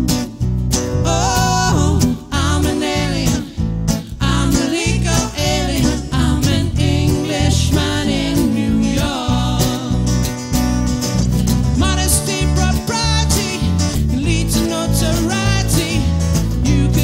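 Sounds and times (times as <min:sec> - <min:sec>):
acoustic guitars: 0:00.0 - 0:17.0
electric bass: 0:00.0 - 0:17.0.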